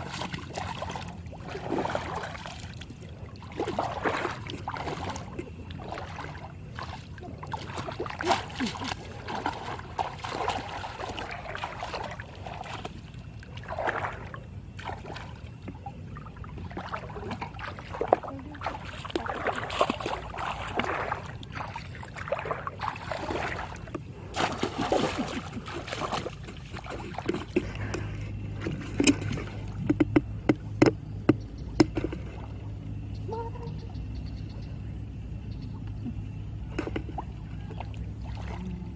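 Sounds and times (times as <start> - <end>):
low hum: 0.0 - 38.9
water splashing and sloshing: 0.0 - 38.9.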